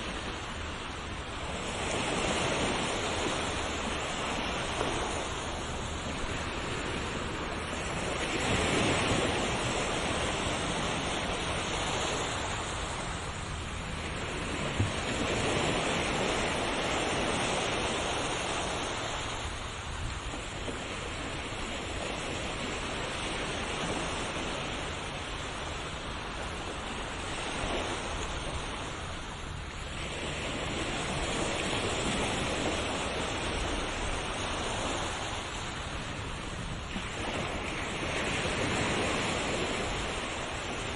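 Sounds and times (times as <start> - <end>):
ocean waves washing on shore: 0.0 - 40.9.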